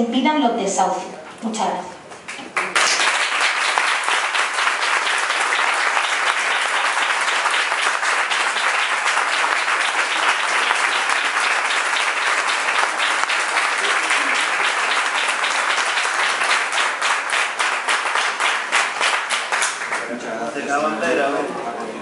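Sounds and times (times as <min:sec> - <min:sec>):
crowd applauding: 0:02.3 - 0:20.6.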